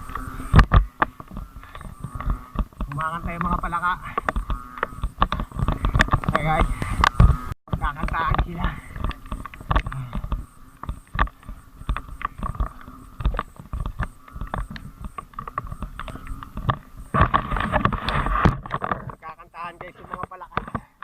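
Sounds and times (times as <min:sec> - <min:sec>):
bicycle rattling on rough road: 0:00.0 - 0:21.0
frogs calling: 0:00.0 - 0:21.0.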